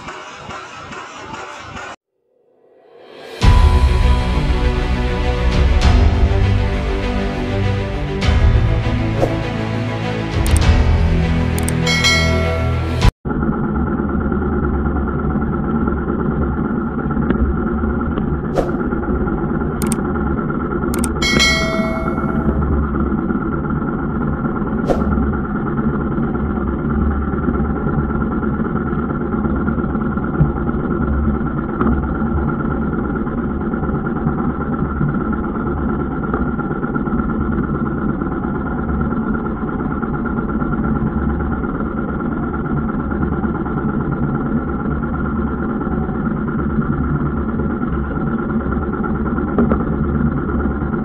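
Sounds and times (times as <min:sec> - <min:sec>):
boat engine running: 0:00.0 - 0:02.0, 0:08.1 - 0:51.0.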